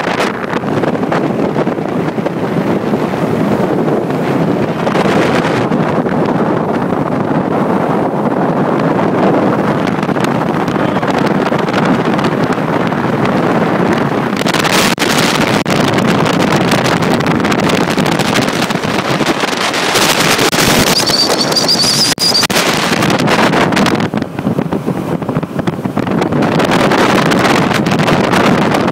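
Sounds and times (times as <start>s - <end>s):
motorboat running: 0.0s - 28.9s
wind buffeting microphone: 0.0s - 28.9s.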